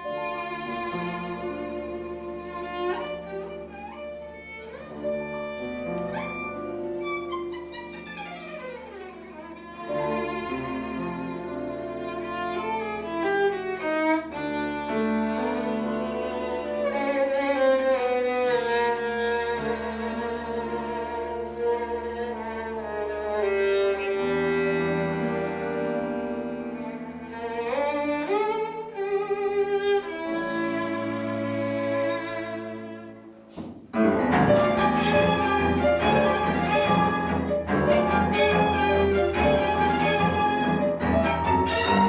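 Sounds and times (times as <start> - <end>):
cello: 0.0 - 42.0
violin melody: 0.0 - 42.0.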